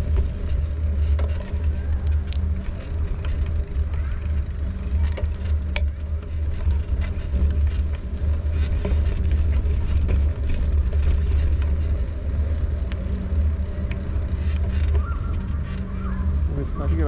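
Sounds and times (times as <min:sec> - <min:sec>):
small clicks and rattles: 0:00.0 - 0:16.2
bicycle tyre vibration: 0:00.0 - 0:17.0.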